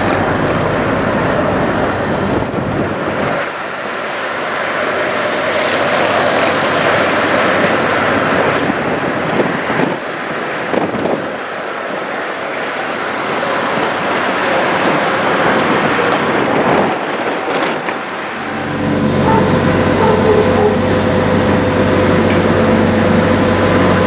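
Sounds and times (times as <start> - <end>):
diesel truck engines running: 0.0 - 24.0
traffic noise: 0.0 - 24.0.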